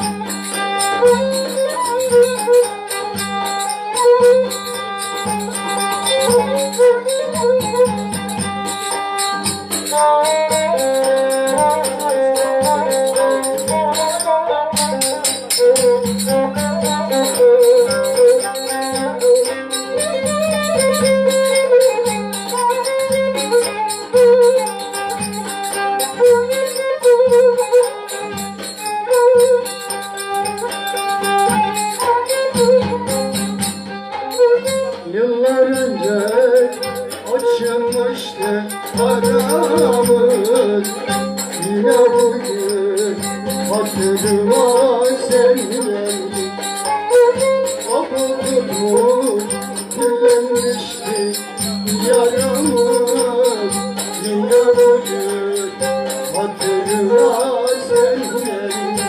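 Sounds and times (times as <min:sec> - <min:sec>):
folk melody: 0:00.0 - 0:59.0
tambourine-like rattling percussion: 0:00.0 - 0:59.0.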